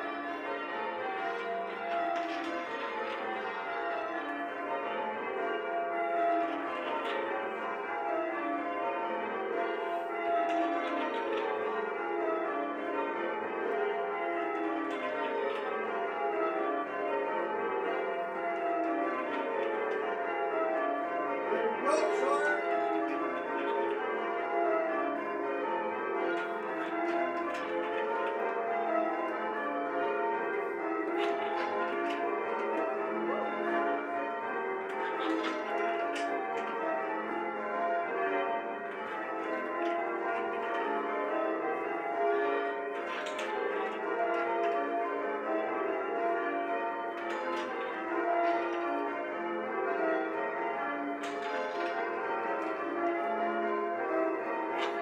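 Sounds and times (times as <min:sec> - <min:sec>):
church bells change ringing: 0:00.0 - 0:55.0.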